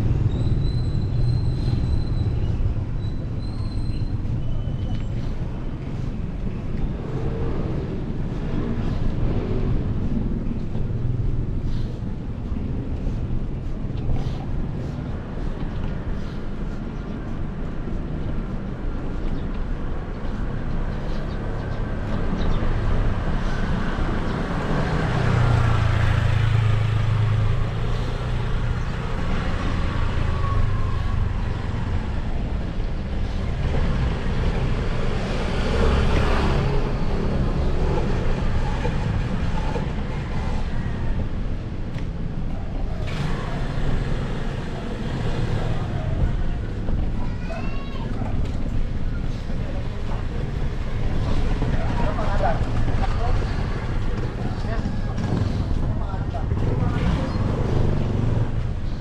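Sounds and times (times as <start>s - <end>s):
vehicles passing close by: 0.0s - 59.0s.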